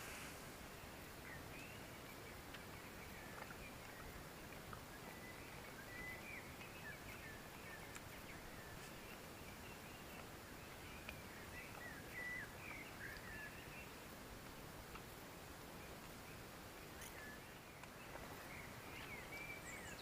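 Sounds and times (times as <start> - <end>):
small birds chirping: 0.0 - 14.1, 15.7 - 20.0
soft background hiss: 0.0 - 20.0.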